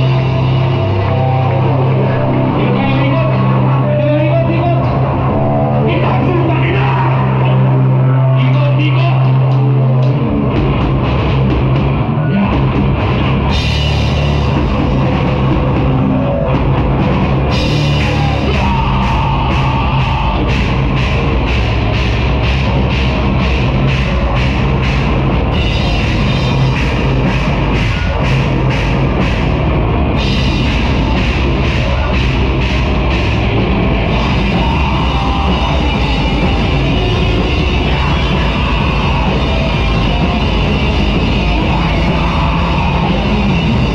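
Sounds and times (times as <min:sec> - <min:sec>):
heavy rock band playing: 0:00.0 - 0:43.9.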